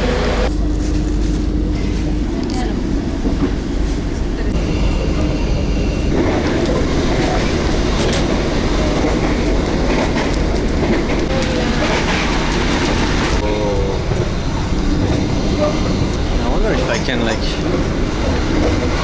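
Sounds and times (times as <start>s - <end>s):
train clatter: 0.0s - 19.0s
train wheels rumbling: 0.0s - 19.0s.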